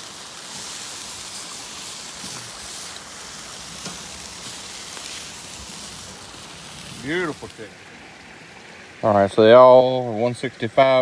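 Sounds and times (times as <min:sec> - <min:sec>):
chicken sizzling on a grill: 0:00.0 - 0:07.8, 0:09.0 - 0:11.0.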